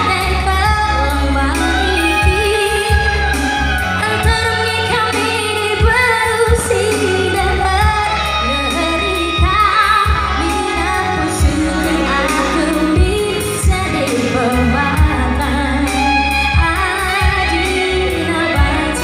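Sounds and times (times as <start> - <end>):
backing music with deep bass: 0.0 - 19.0
woman singing with vibrato: 0.0 - 19.0.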